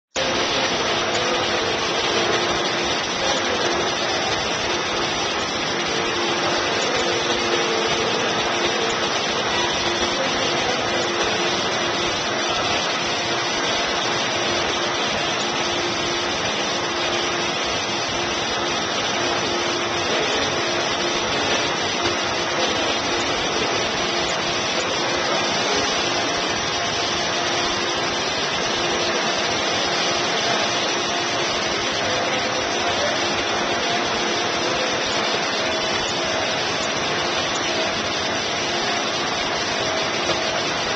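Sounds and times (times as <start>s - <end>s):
pool pump hum: 0.1s - 40.9s.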